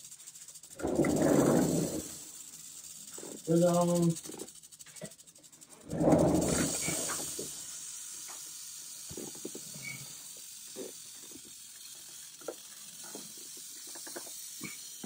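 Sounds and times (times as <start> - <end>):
rattlesnake rattling: 0.0 - 15.0.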